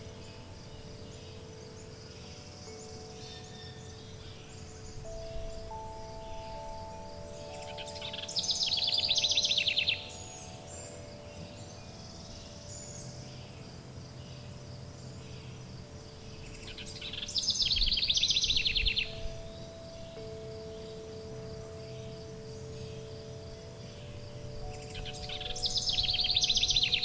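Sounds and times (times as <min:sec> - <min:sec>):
chime tones ringing: 0:00.0 - 0:27.0
faint high hiss: 0:00.0 - 0:27.0
songbird trilling: 0:00.0 - 0:27.0.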